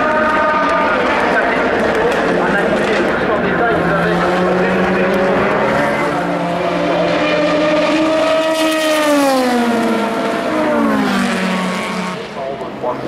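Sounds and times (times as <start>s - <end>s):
race car engine passing: 0.0s - 13.0s.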